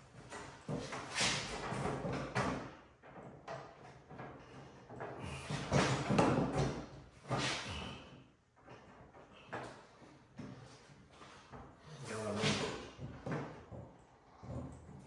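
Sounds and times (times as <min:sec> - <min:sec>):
pipe scraping and creaking: 0:00.0 - 0:15.0.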